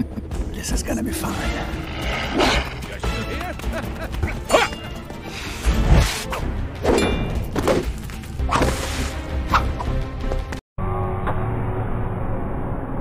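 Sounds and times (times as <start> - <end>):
dramatic music: 0.0 - 12.9.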